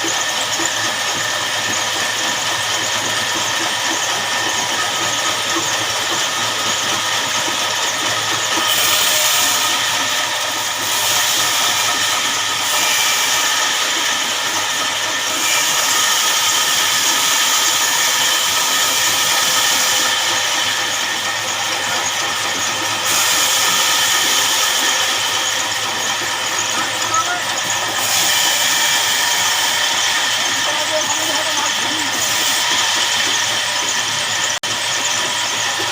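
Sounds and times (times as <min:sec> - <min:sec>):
band saw cutting log: 0:00.0 - 0:35.9
sawmill machine hum: 0:00.0 - 0:35.9.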